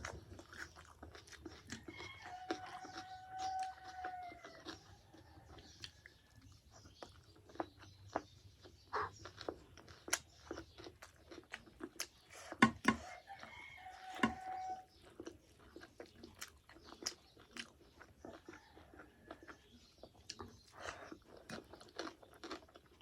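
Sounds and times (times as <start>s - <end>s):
chewing and crunching: 0.0s - 23.0s.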